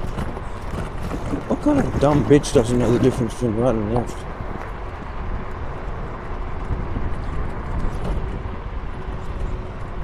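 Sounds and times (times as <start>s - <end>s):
road noise: 0.0s - 10.0s
wind rushing over microphone: 0.0s - 10.0s.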